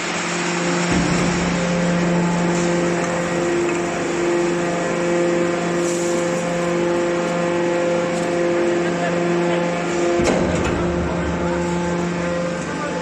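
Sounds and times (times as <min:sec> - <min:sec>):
baler machine humming: 0:00.0 - 0:13.0.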